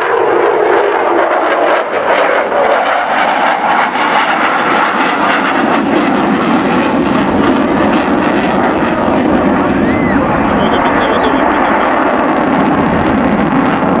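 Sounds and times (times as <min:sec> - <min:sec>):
jet engines roaring in flight: 0:00.0 - 0:14.0.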